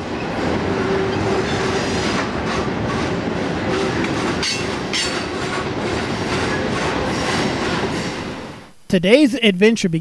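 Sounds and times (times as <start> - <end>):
train wheels clickety-clack on rails: 0.0 - 8.6.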